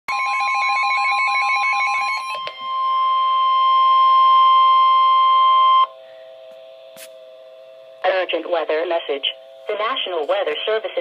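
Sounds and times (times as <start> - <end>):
steady high alarm tone: 0.1 - 11.0
warbling beeping electronic alarm: 0.1 - 11.0.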